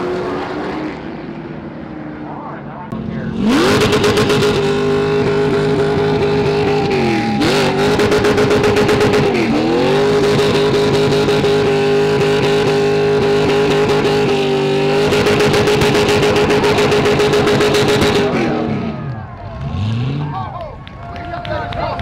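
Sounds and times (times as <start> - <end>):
race car engine at high revs: 0.0 - 20.4.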